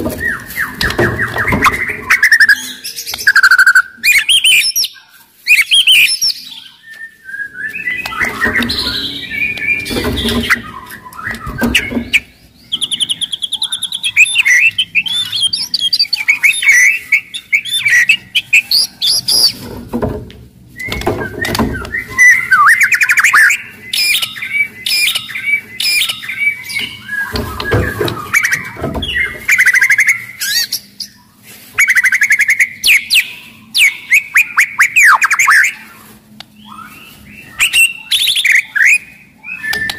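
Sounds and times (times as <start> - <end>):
songbird singing varied song: 0.1 - 19.6, 20.8 - 39.9.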